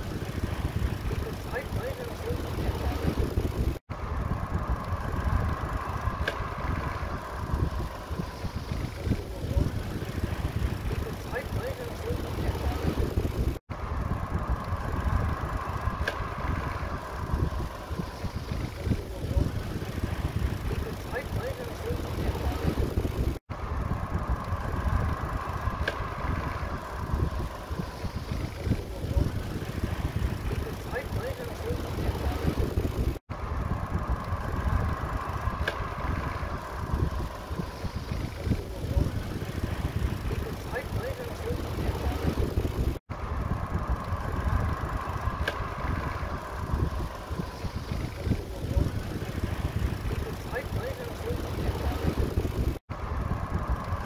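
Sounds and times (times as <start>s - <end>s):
hum of passing traffic: 0.0s - 54.0s
road traffic noise: 0.0s - 54.0s
wind rumble on microphone: 0.0s - 54.0s.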